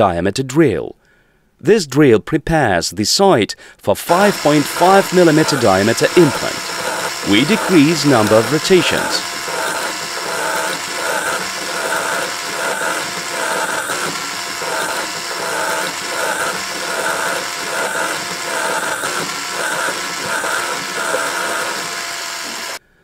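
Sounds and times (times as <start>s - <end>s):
surgical drill motor whirring: 4.0s - 22.9s.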